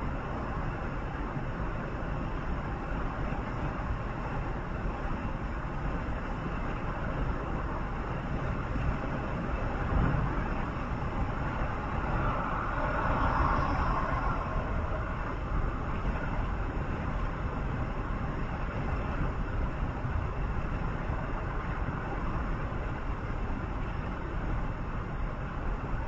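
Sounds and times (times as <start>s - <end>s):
vehicle road noise rumble: 0.0s - 26.0s.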